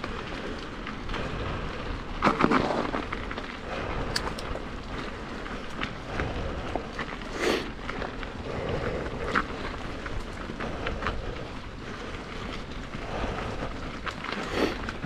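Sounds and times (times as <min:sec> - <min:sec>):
bike clicks and rattles: 0:00.0 - 0:15.0
tyre and wind noise: 0:00.0 - 0:15.0.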